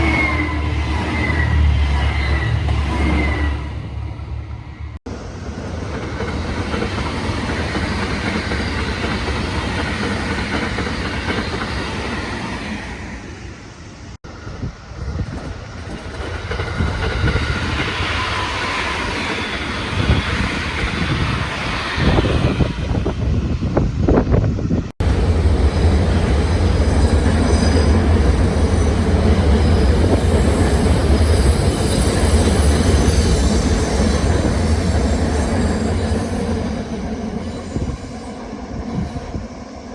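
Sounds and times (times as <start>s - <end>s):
train wheels squealing: 0.0s - 3.8s, 6.0s - 23.3s, 25.7s - 39.9s
electric train rumbling: 0.0s - 39.9s.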